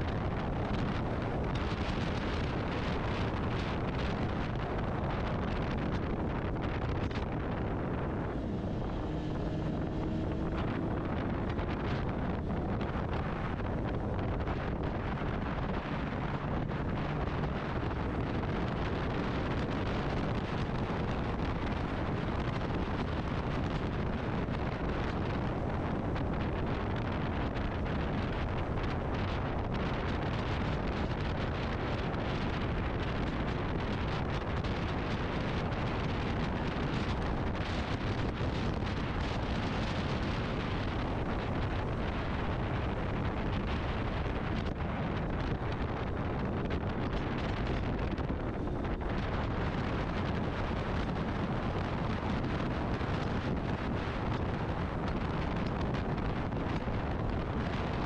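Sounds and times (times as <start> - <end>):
motorcycle and road rush: 0.0 - 58.0
wind buffeting microphone: 0.0 - 58.0.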